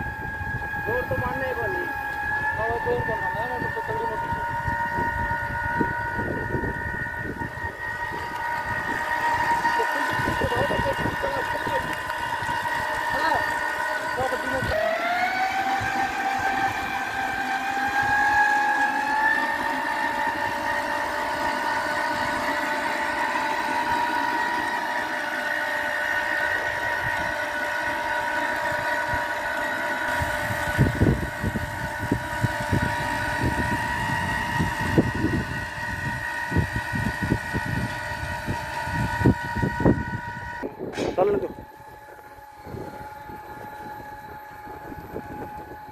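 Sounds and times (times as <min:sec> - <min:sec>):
electric tiller motor whining: 0:00.0 - 0:45.9.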